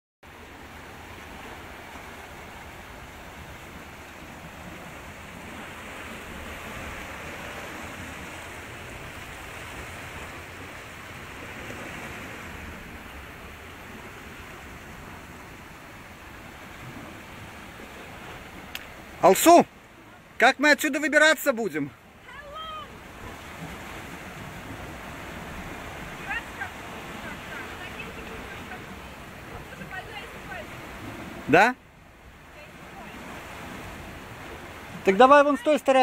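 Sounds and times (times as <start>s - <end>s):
sea surf washing against rocks: 0.3s - 36.0s.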